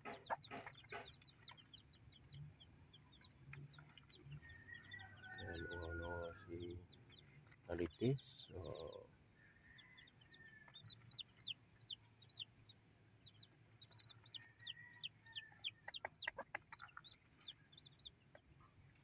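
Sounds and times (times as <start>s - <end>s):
chicks peeping: 0.0s - 9.1s, 9.7s - 19.0s.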